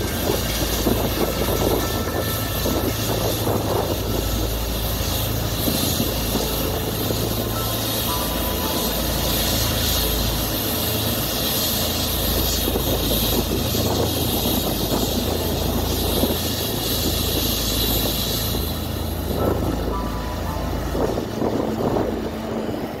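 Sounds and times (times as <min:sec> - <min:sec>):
farm machinery engines hum: 0:00.0 - 0:23.0.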